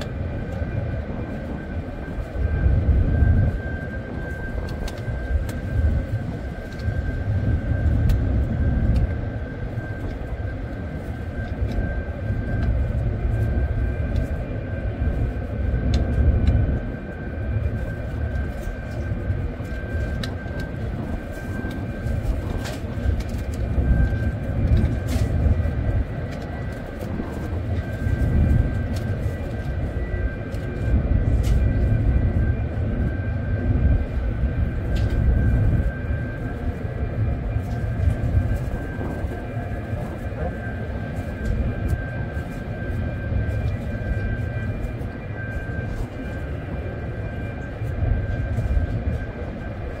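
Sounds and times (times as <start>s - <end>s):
ship machinery rumble: 0.0s - 50.0s.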